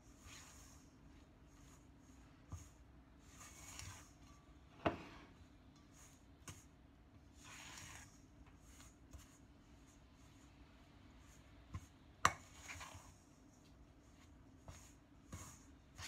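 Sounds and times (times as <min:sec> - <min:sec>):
dough squishing in a bowl: 0:00.0 - 0:16.0.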